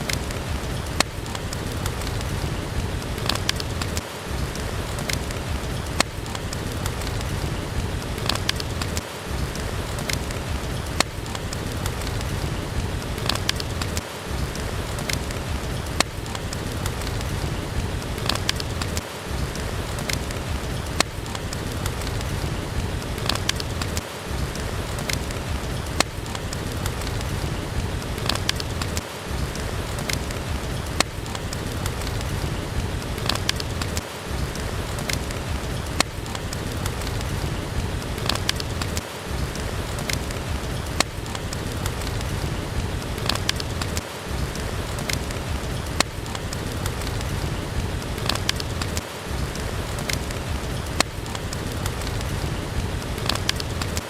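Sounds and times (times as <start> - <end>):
fireplace crackling and popping: 0.0 - 54.0
steady rain hiss: 0.0 - 54.0.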